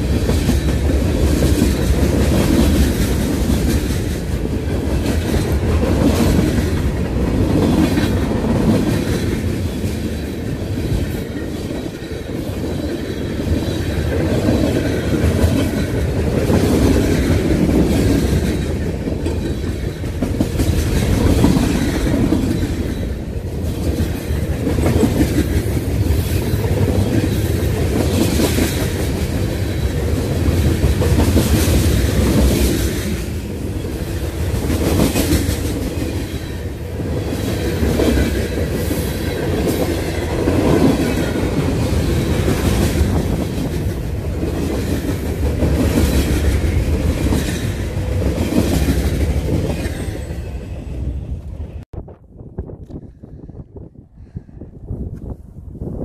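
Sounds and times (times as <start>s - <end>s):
freight train wheels clickety-clack: 0.0s - 51.9s.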